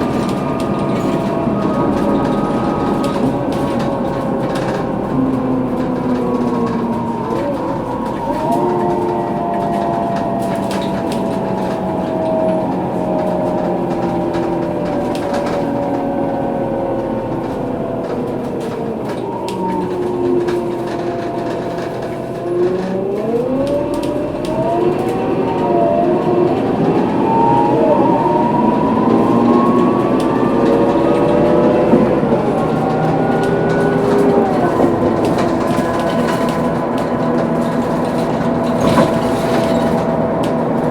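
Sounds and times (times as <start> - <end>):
bus differential whining: 0.0 - 40.9.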